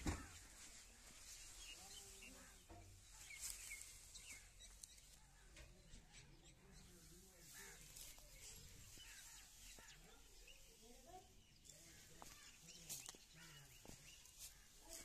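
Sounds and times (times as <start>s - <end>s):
distant bird chirps: 0.0s - 15.0s.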